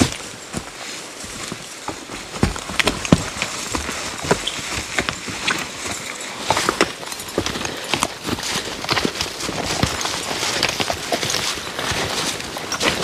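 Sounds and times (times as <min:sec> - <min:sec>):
dry leaves rustling: 0:00.0 - 0:13.0
horse hoof thuds: 0:00.0 - 0:13.0.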